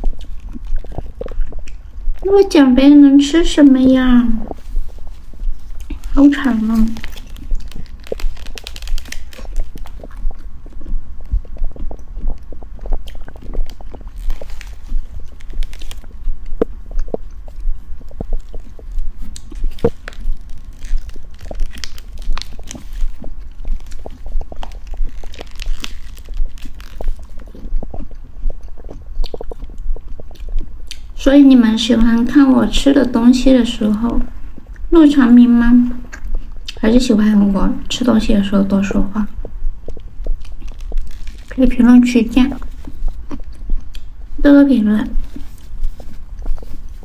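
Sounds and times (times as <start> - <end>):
chewing and crunching: 0.0 - 47.0
mouth clicks: 0.0 - 47.0.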